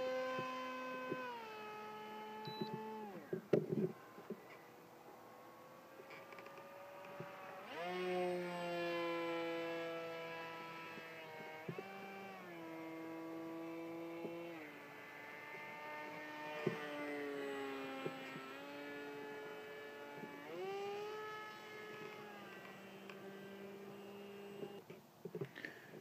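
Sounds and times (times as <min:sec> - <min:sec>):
model airplane motor whining: 0:00.0 - 0:26.0.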